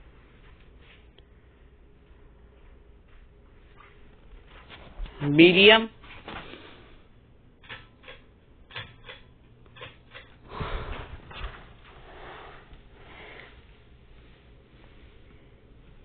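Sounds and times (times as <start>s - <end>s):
ceiling fan whooshing: 0.0s - 16.0s.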